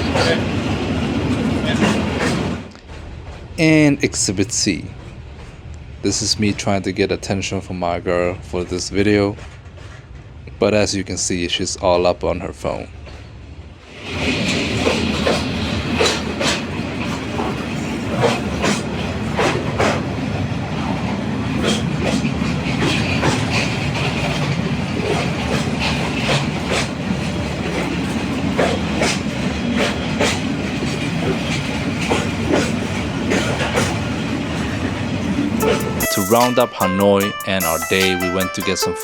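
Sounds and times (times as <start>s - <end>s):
wheels clacking over rail joints: 0.0s - 10.8s, 12.7s - 36.2s
train rumbling past: 0.0s - 39.0s.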